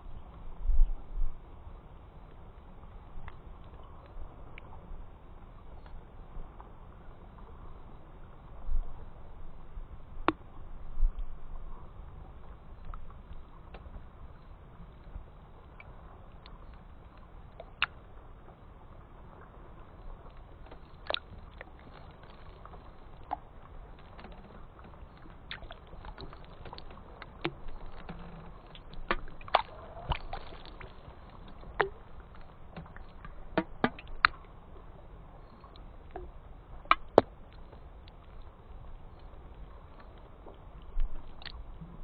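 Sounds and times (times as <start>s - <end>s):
low steady hiss: 0.0s - 42.0s.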